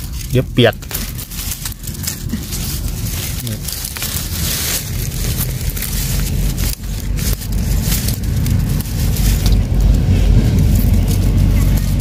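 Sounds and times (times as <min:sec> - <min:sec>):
dry leaves crackling: 0:00.0 - 0:12.0
low rumble: 0:00.0 - 0:12.0.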